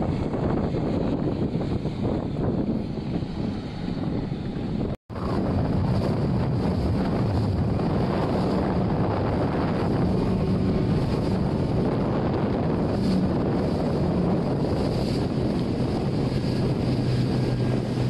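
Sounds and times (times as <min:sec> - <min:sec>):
low engine hum: 0:00.0 - 0:18.0
rushing water: 0:00.0 - 0:18.0
wind buffeting microphone: 0:00.0 - 0:18.0.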